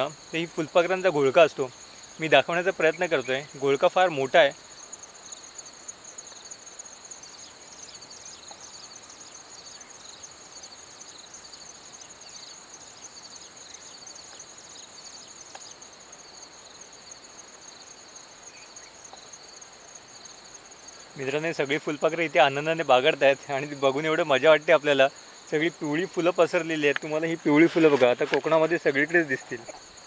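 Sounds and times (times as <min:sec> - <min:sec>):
insect chorus trilling: 0:00.0 - 0:30.0.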